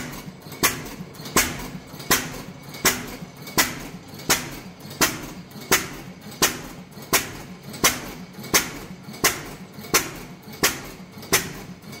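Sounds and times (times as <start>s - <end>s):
stationary engine running slowly: 0.0s - 12.0s.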